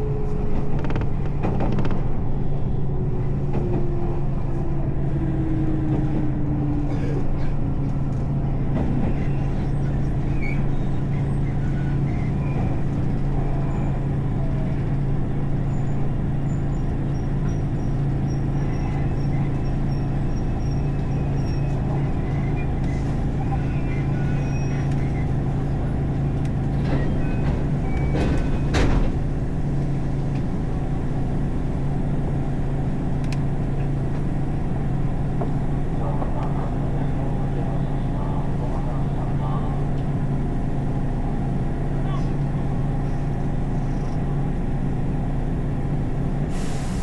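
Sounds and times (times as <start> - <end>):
train clatter: 0.0 - 13.3, 16.2 - 41.4
train interior hum and rumble: 0.0 - 47.0.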